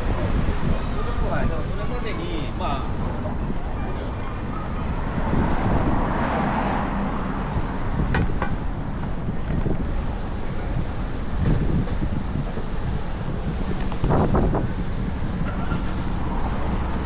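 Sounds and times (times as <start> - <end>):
street traffic: 0.0 - 17.0
wind buffeting microphone: 0.0 - 17.0.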